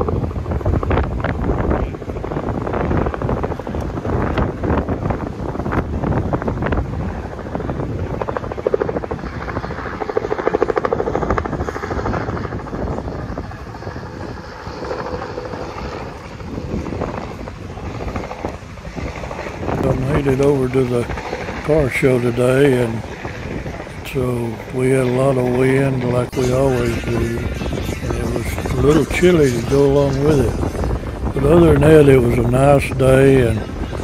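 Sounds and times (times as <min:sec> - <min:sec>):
helicopter rotor beat: 0:00.0 - 0:34.0
wind on microphone: 0:00.0 - 0:34.0.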